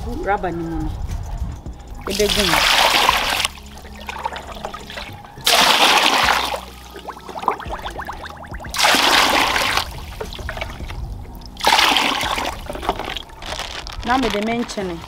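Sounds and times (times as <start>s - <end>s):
water pouring and splashing: 2.0s - 15.0s.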